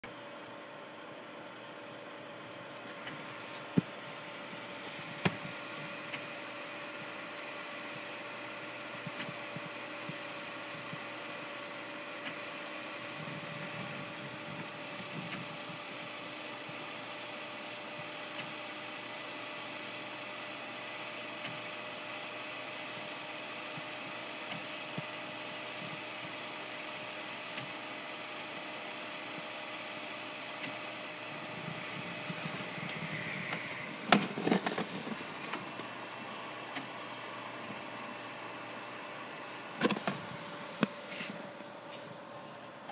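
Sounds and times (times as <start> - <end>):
constant high whine: 0.0 - 42.9
printer fans humming: 0.1 - 42.9.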